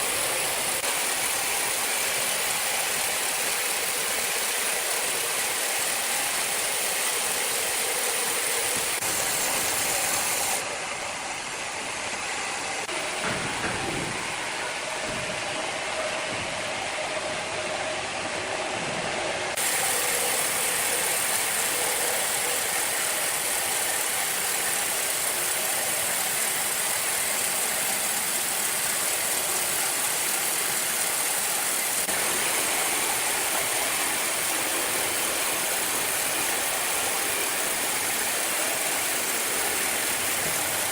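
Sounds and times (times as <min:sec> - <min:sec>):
sawmill machinery hissing: 0:00.0 - 0:40.9.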